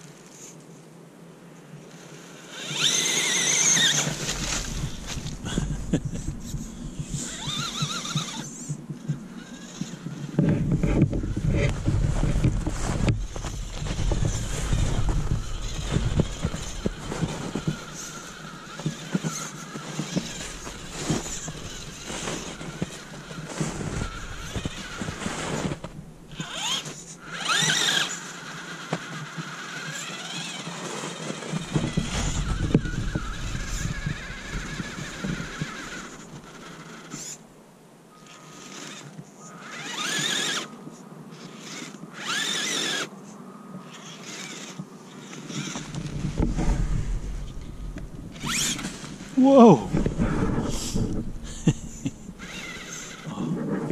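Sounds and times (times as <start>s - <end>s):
tyres churning snow: 1.8s - 43.1s, 43.9s - 53.9s
electric motor whining: 1.9s - 37.4s, 38.2s - 43.1s, 43.9s - 53.9s.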